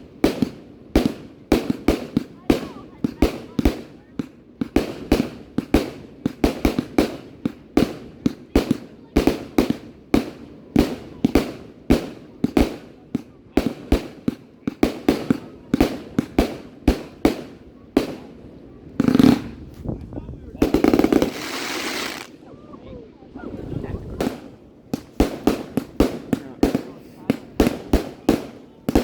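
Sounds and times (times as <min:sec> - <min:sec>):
fireworks bursting: 0:00.0 - 0:19.9, 0:20.5 - 0:22.6, 0:23.4 - 0:29.0.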